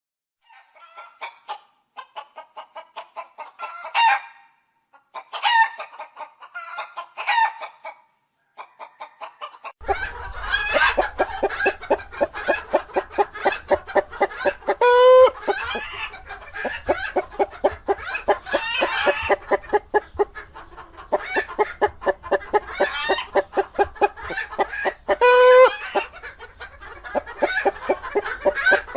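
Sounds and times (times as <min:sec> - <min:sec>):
chickens cackling: 0:00.4 - 0:28.9
chickens clucking: 0:00.5 - 0:04.2, 0:04.9 - 0:28.9
chicken squawks: 0:03.0 - 0:28.9.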